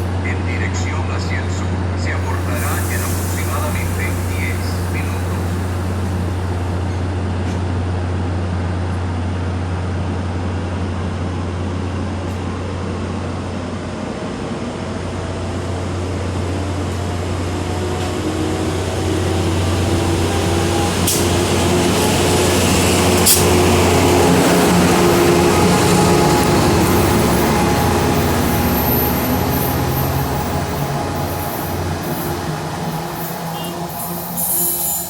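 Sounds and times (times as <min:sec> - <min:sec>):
diesel locomotive engine drone: 0:00.0 - 0:35.0
train running noise: 0:00.0 - 0:35.0.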